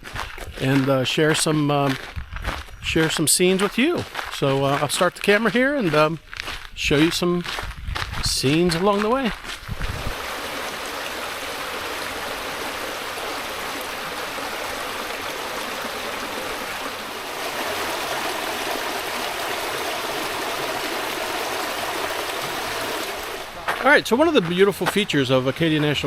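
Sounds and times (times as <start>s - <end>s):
brook running: 0.0s - 26.0s.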